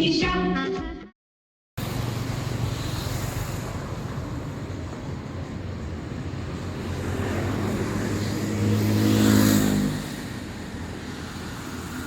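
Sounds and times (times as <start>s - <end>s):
road traffic noise: 1.8s - 12.0s
vehicle passing close by: 1.8s - 12.0s.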